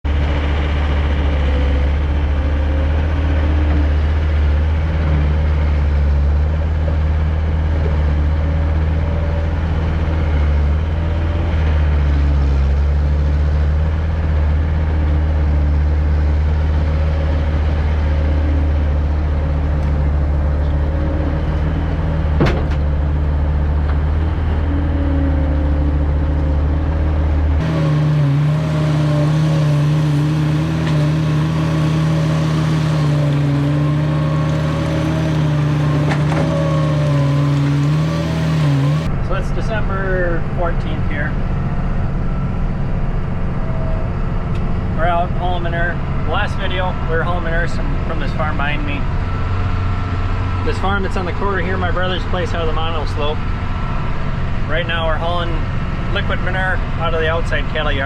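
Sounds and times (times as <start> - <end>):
tractor engine drone: 0.0 - 58.0.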